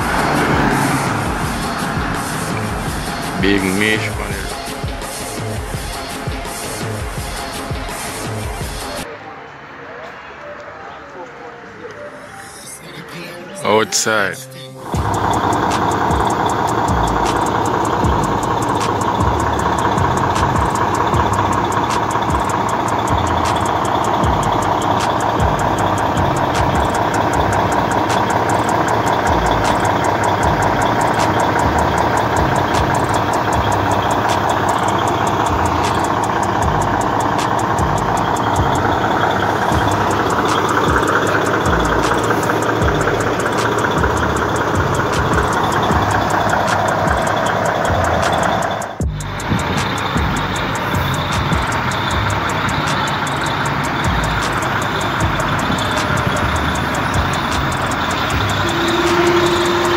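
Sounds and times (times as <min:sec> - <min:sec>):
diesel truck engine idling: 0:00.0 - 0:09.1, 0:13.7 - 0:59.9.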